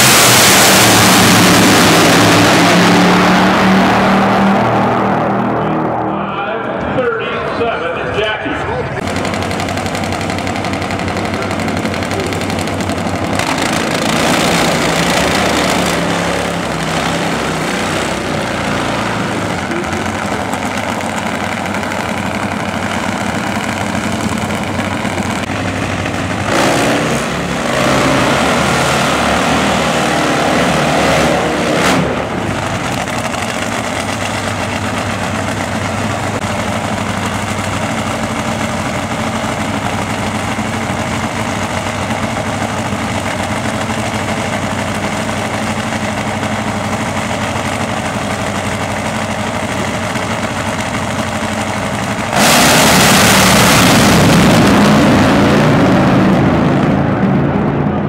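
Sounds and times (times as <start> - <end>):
motorcycle engines idling and revving: 0.0 - 58.0.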